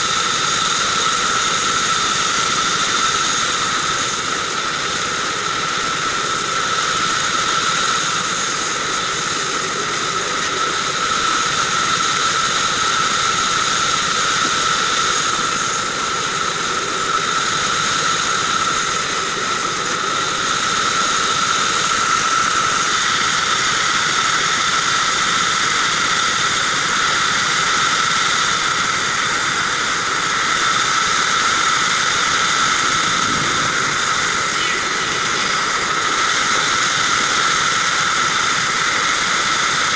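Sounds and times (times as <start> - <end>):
band saw whine: 0.0 - 39.9
saw cutting wood: 0.0 - 39.9.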